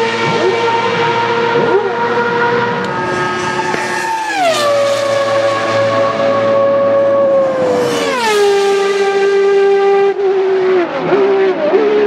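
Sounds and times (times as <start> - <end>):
racing cars passing at speed: 0.0 - 12.0.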